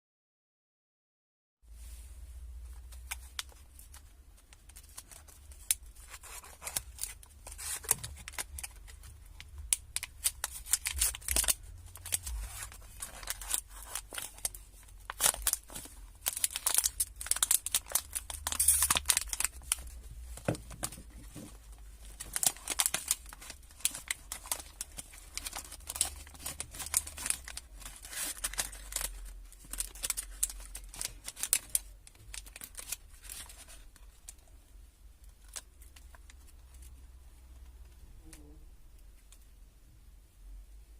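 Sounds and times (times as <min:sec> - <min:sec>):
plastic wrapper crinkling: 0:02.7 - 0:34.6, 0:35.2 - 0:37.7.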